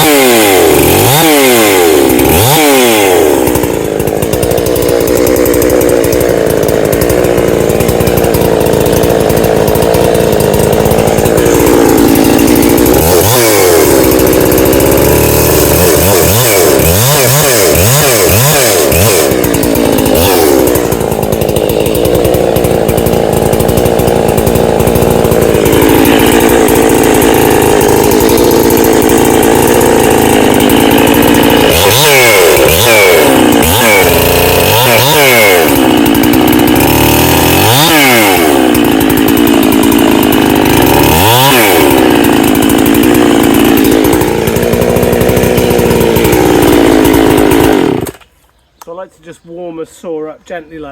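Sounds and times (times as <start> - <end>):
chainsaw cutting wood at high revs: 0.0 - 48.4.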